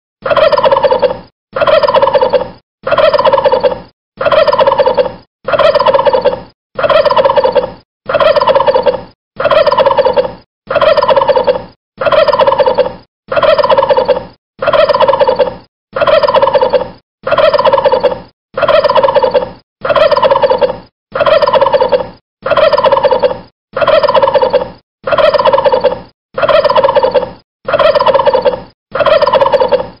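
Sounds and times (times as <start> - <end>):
turkey gobbling: 0.2 - 30.0.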